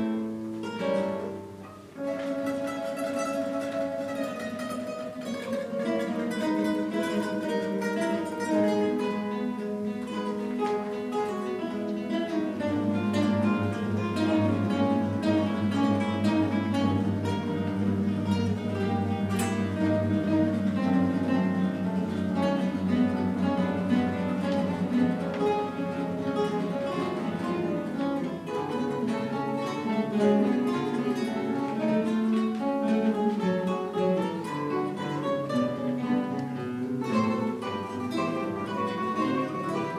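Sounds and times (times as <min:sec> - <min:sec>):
plucked guitar ensemble: 0:00.0 - 0:39.9.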